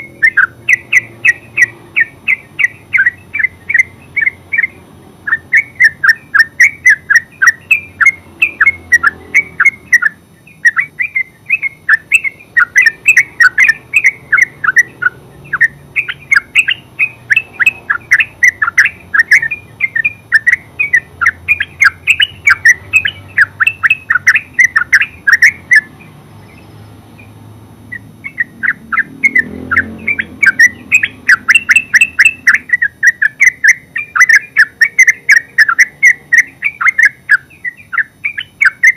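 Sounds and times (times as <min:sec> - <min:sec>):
bird singing chattering song: 0:00.0 - 0:38.9.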